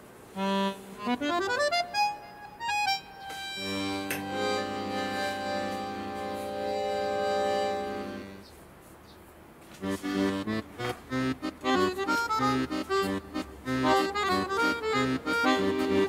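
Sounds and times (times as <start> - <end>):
comical accordion music: 0.3 - 8.5, 9.8 - 16.0.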